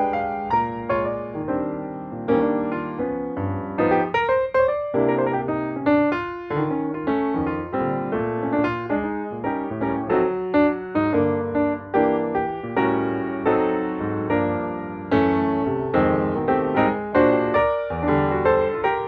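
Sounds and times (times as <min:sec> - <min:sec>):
gentle solo piano melody: 0:00.0 - 0:19.0.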